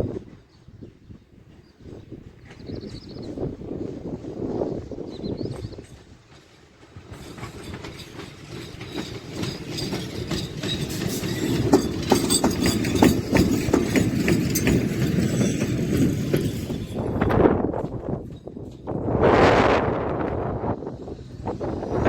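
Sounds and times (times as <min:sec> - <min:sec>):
freight train rumble: 0:00.0 - 0:22.0
train wheels clattering on rails: 0:00.0 - 0:22.0.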